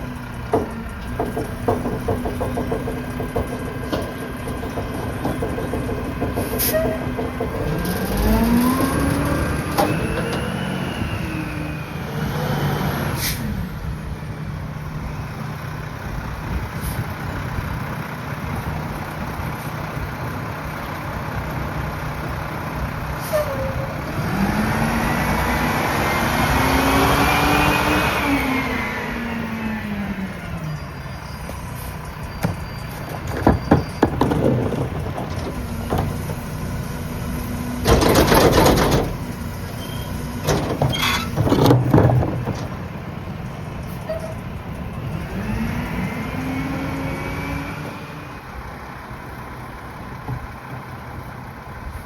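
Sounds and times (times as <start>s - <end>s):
garbage truck diesel engine revving: 0.0s - 52.0s.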